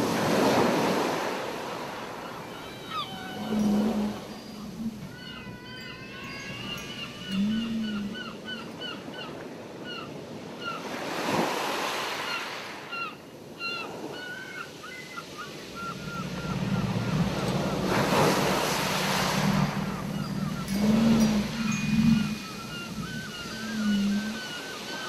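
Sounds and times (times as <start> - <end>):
ocean waves breaking: 0.0 - 25.0
whale song: 1.6 - 10.0, 12.3 - 25.0
gull cries: 2.2 - 10.9, 12.3 - 25.0.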